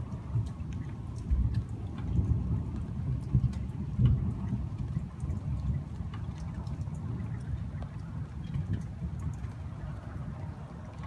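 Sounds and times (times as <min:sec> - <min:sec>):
rain ticking: 0:00.0 - 0:11.0
thunder rumbling: 0:00.0 - 0:11.0.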